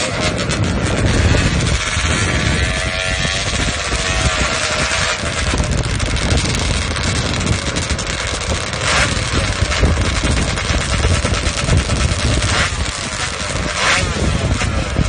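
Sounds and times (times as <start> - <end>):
exhaust popping: 0.0 - 15.0
motorcycle engine running hard: 0.0 - 15.0.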